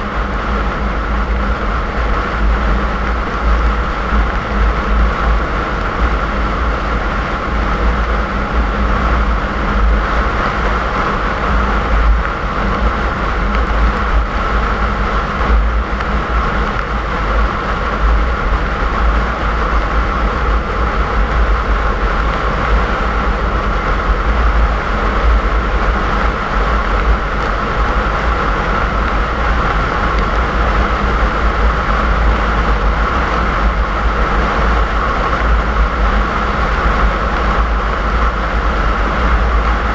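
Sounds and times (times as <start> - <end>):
car driving on snowy road: 0.0 - 39.9.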